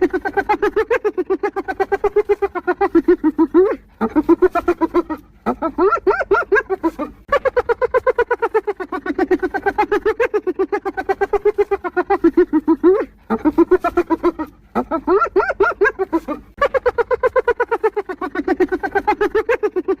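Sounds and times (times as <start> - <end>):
hyena giggling: 0.0 - 20.0.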